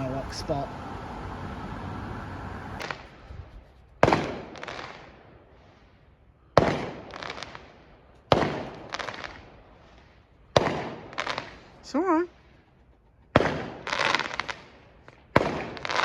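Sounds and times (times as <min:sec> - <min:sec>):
fireworks bangs: 0:00.0 - 0:05.8, 0:06.6 - 0:11.7, 0:13.4 - 0:16.0
fireworks crackles: 0:00.0 - 0:12.0, 0:13.4 - 0:16.0.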